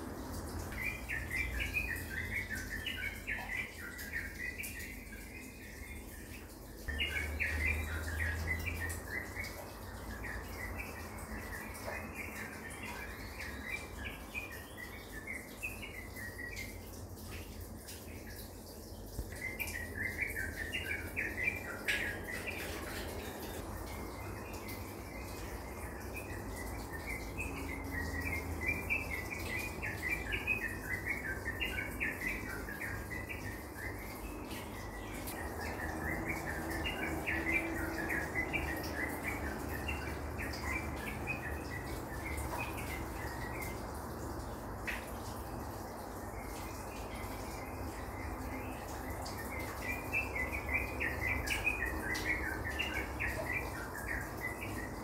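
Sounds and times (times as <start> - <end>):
birds chirping: 0.2 - 55.0.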